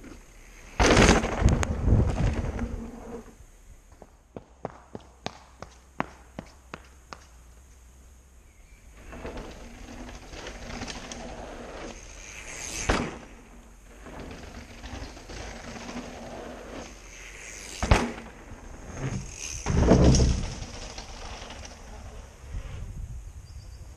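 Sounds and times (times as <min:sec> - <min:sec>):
bike tyres rolling over gravel: 0:00.0 - 0:07.2, 0:08.8 - 0:23.0.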